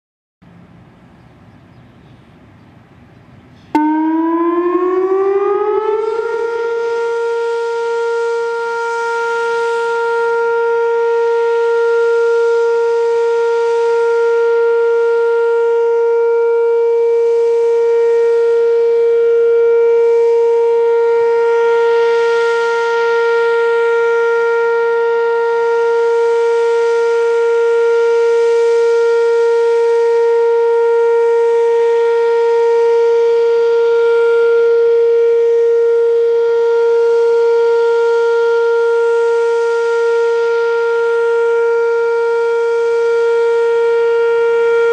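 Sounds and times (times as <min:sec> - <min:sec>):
electronic warning siren: 0:03.7 - 0:44.9.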